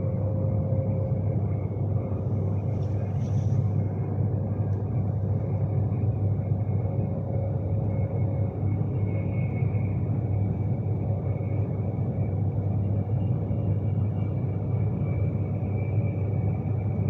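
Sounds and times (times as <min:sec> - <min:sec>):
electric train rumble inside carriage: 0:00.0 - 0:17.0.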